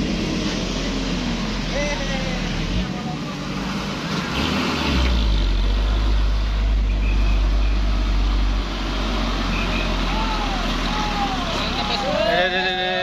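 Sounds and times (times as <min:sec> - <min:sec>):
diesel truck engine labouring: 0:00.0 - 0:13.0.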